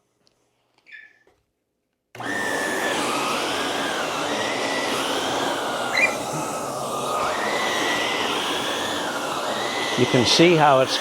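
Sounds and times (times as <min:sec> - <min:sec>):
vacuum cleaner whining on rug: 0:02.2 - 0:11.0.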